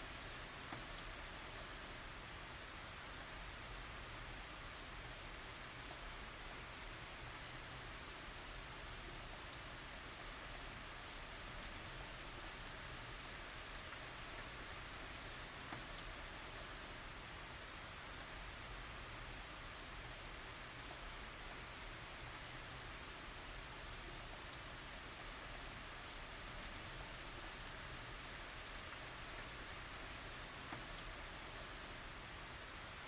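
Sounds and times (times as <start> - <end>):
light rain pattering: 0.0 - 33.0.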